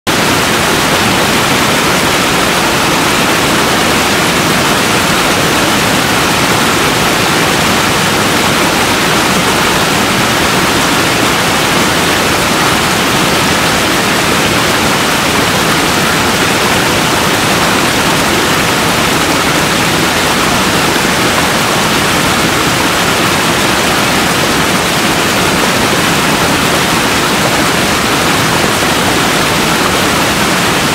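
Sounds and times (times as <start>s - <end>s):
waterfall cascading over rocks: 0.1s - 30.9s.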